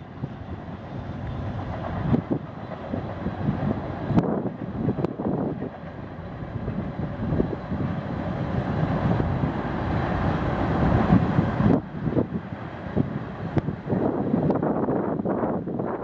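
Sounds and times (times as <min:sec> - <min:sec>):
train wheels rumbling over bridge: 0:00.0 - 0:16.0.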